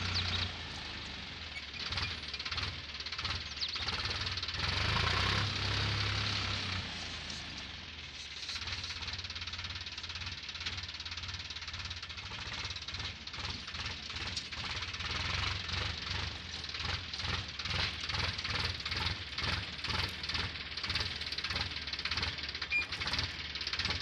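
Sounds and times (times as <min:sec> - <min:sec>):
tractor diesel engine chugging: 0:00.0 - 0:24.0.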